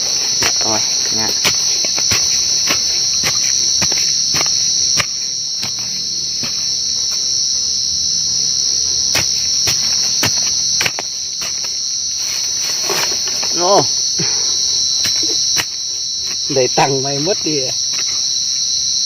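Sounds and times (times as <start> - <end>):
cricket trilling: 0.0 - 19.0.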